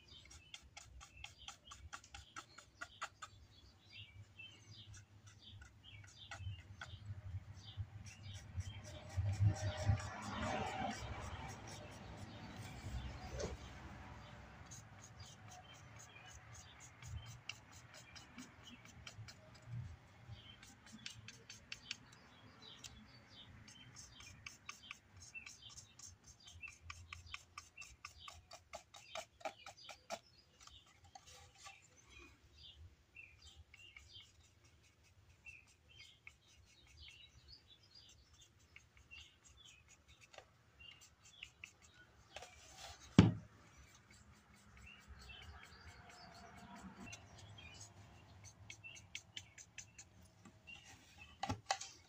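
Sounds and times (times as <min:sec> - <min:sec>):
charcoal scratching on carving: 0:00.0 - 0:03.4, 0:04.8 - 0:23.0, 0:23.6 - 0:32.0, 0:33.4 - 0:51.3.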